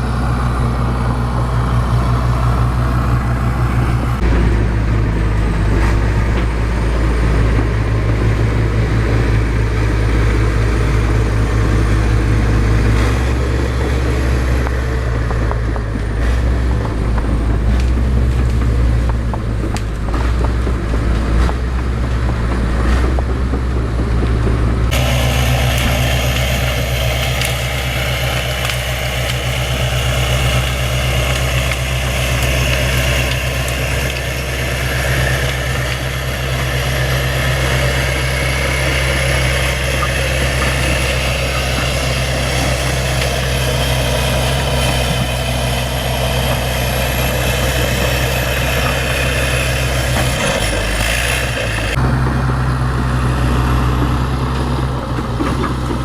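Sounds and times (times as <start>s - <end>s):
bulldozer diesel engine humming: 0.0s - 56.0s.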